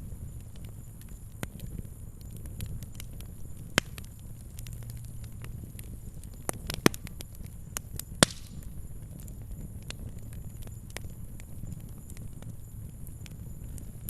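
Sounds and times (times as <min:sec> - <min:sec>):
fire crackling: 0:00.0 - 0:14.0
loud fire pops: 0:00.0 - 0:14.0.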